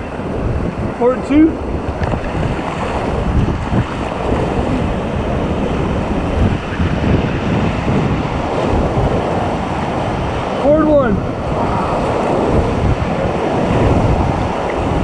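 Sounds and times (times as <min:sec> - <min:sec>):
river water rushing and splashing: 0:00.0 - 0:15.0
wind buffeting microphone: 0:00.0 - 0:15.0.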